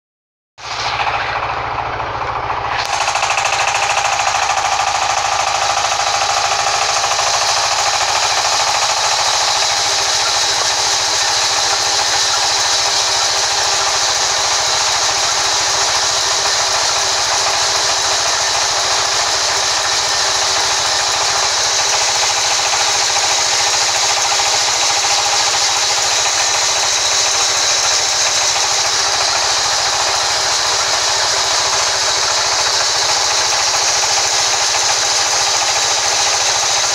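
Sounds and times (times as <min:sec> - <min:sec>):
band saw cutting wood: 0:00.6 - 0:36.9.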